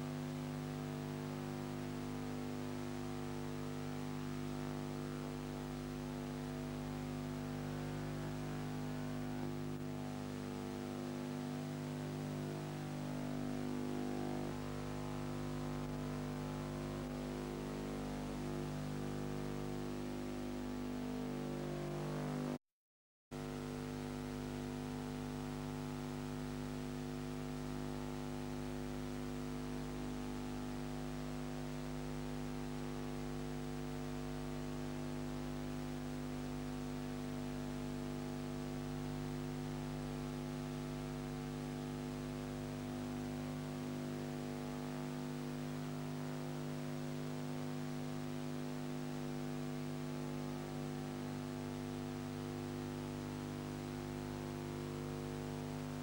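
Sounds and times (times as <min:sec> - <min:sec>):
electrical mains hum: 0:00.0 - 0:22.6, 0:23.4 - 0:56.0.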